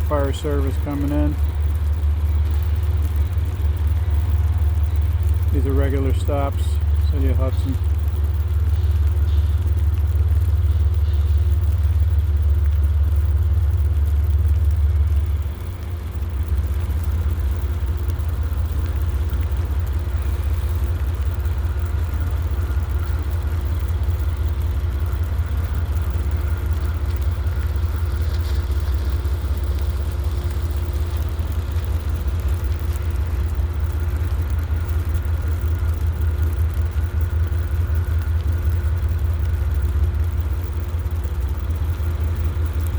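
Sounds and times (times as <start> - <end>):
engine idling: 0.0 - 42.9
faint steady tones: 0.0 - 42.9.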